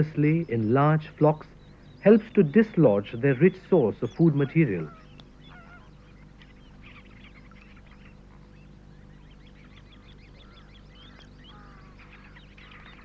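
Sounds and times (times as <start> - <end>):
low steady hum: 0.0 - 13.0
flamingos calling: 1.2 - 13.0.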